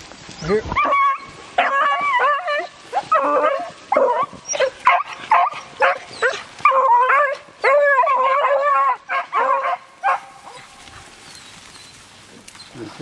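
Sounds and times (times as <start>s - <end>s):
hounds baying: 0.4s - 11.4s.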